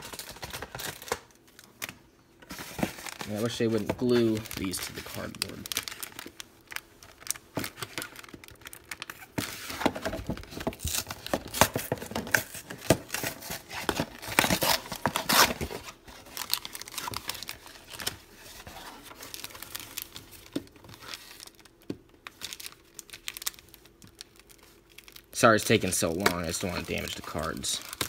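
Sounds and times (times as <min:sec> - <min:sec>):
cardboard tearing and crinkling: 0:00.0 - 0:01.3, 0:02.5 - 0:28.0.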